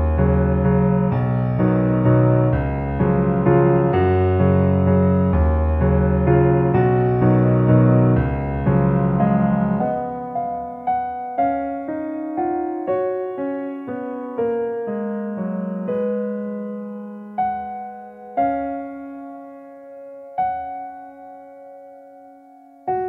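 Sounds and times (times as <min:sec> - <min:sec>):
gentle solo piano music: 0:00.0 - 0:23.0.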